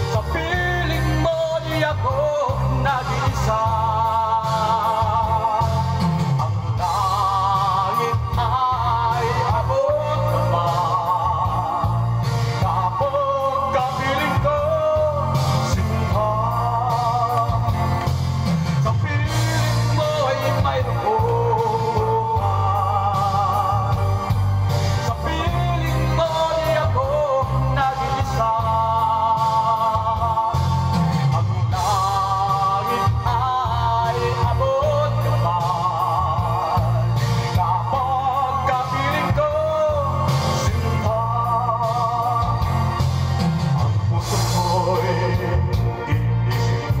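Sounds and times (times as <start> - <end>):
backing track with bass line: 0.0 - 47.0
man singing karaoke: 0.0 - 47.0.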